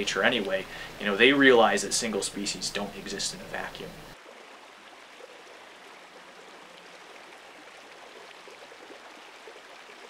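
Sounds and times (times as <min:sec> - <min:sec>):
stream running over stones: 0:00.0 - 0:10.0.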